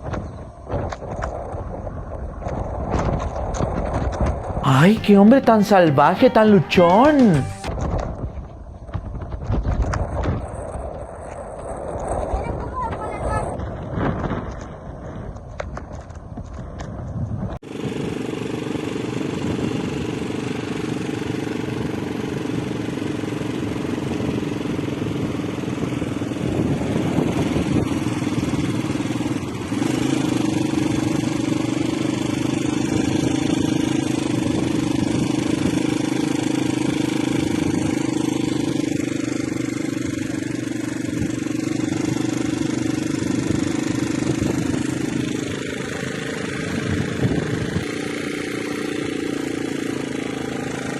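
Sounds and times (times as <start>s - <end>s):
engine running with even hum: 0.0s - 50.9s.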